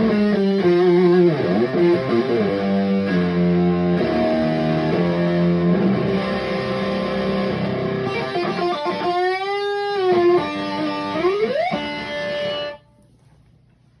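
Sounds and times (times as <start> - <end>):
guitar with sustained notes: 0.0 - 13.2.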